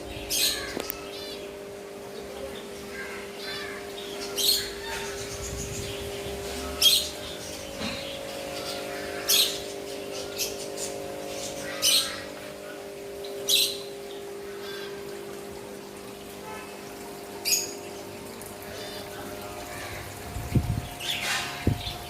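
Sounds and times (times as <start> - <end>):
birds squawking: 0.0 - 15.4, 16.3 - 22.0
steady low hum: 0.0 - 22.0.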